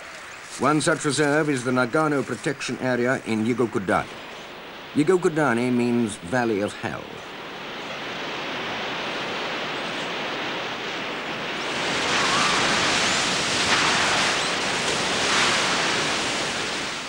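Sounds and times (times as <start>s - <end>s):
geyser gushing steam and water: 0.0s - 17.0s.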